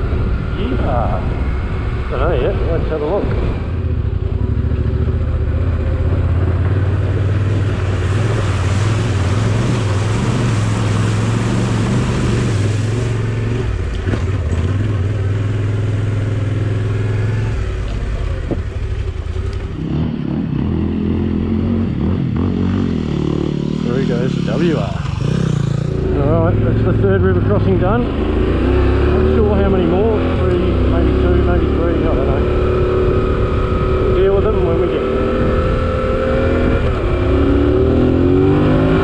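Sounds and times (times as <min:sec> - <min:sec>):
motorcycle engine running: 0:00.0 - 0:38.4.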